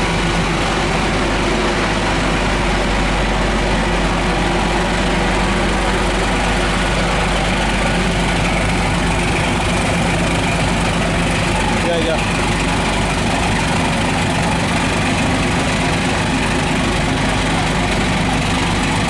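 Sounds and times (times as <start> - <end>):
boat engines rumbling: 0.0 - 19.0
propellers churning water: 0.0 - 19.0.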